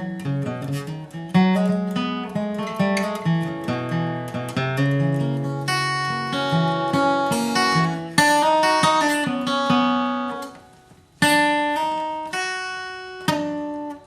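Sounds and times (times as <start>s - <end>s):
acoustic guitar flatpicking melody: 0.0s - 14.0s.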